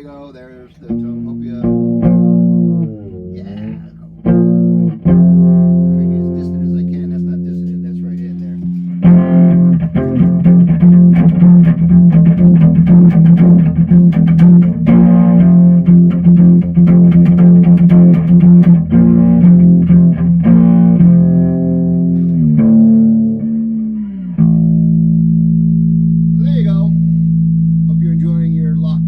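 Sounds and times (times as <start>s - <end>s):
fretless bass plucked notes: 0.0s - 29.0s.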